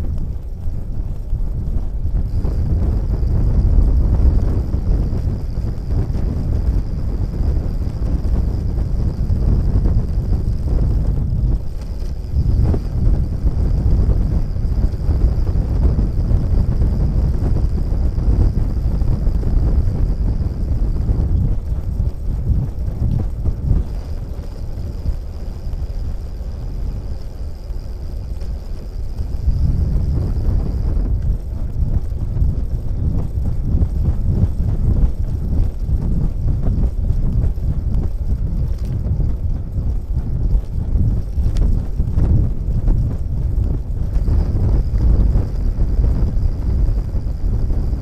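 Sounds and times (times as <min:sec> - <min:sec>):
faint high hum: 0:00.0 - 0:48.0
wind buffeting microphone: 0:00.0 - 0:48.0.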